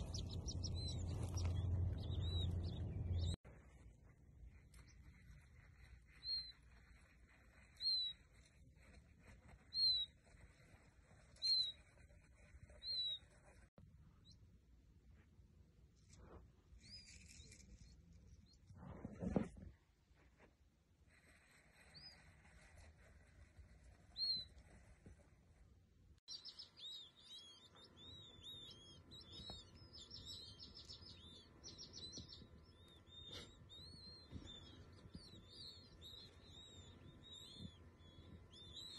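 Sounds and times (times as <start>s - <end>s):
baby chick peeping: 0.0s - 14.5s, 21.1s - 25.4s, 26.3s - 38.9s.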